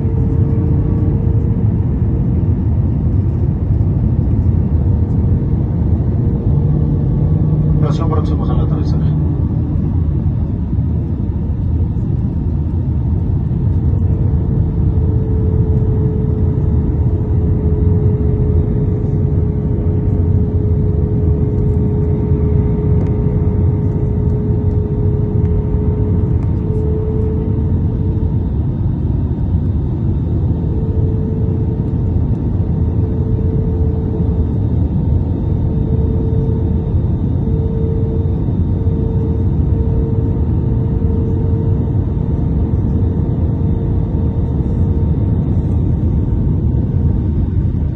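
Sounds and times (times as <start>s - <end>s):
engine and airflow roar: 0.0s - 47.9s
faint pulsing hum: 0.0s - 47.9s.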